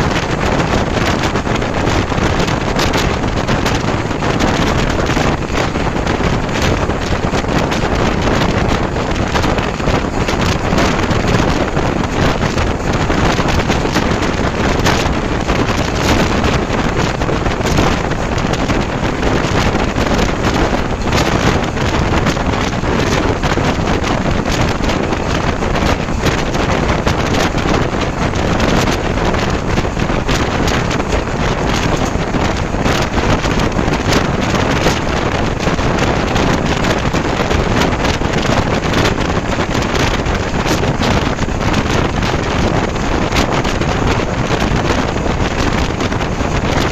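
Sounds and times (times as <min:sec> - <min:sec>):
passenger train running: 0:00.0 - 0:46.9
wind buffeting microphone: 0:00.0 - 0:46.9
small rapid clicks and rattles: 0:00.1 - 0:46.9.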